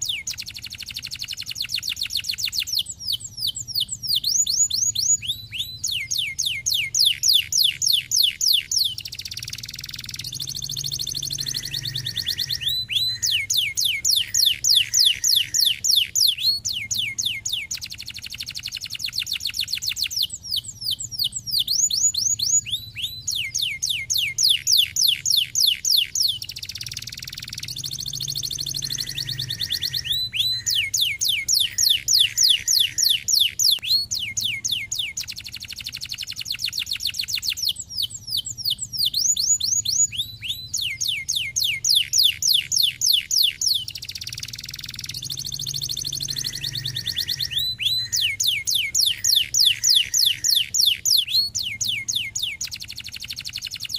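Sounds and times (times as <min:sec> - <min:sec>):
canary whistled notes: 0:00.0 - 0:53.8
canary buzzy trills: 0:00.0 - 0:53.9.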